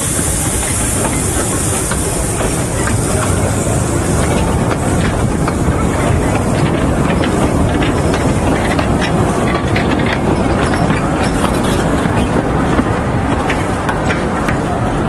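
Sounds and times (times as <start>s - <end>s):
train wheels rumbling on rail: 0.0s - 15.0s
wheels clicking over track: 0.0s - 15.0s.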